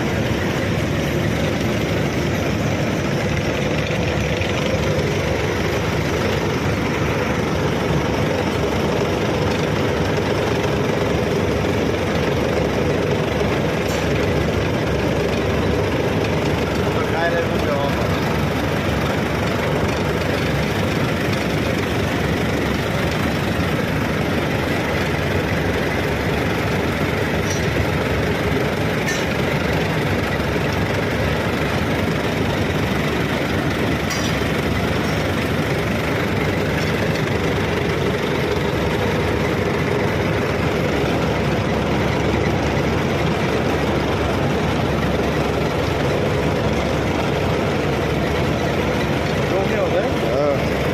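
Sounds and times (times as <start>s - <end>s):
heavy machinery running: 0.0s - 50.9s.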